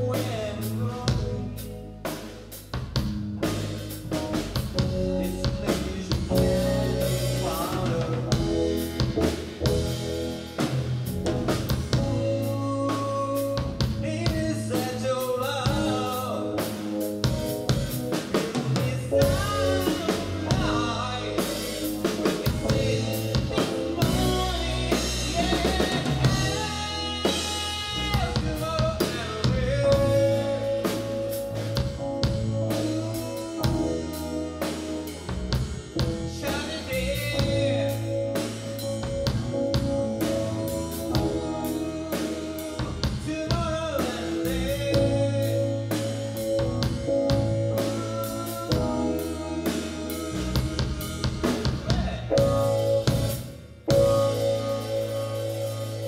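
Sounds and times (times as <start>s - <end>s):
drum kit: 0.0s - 56.0s
electric bass guitar: 0.0s - 56.0s
keyboard: 0.0s - 56.0s.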